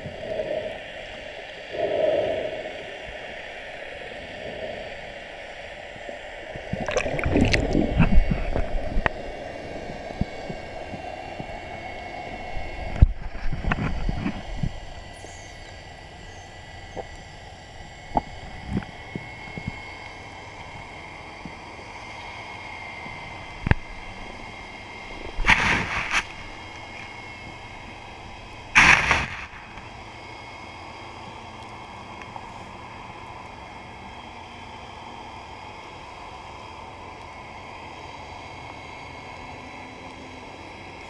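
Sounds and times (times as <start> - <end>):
faint high whining tones: 0.0 - 41.0
underwater hum: 0.0 - 41.0.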